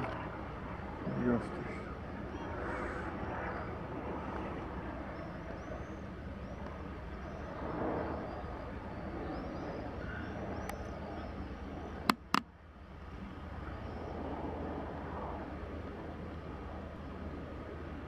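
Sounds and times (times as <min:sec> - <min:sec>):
distant helicopter flying past: 0:00.0 - 0:18.0.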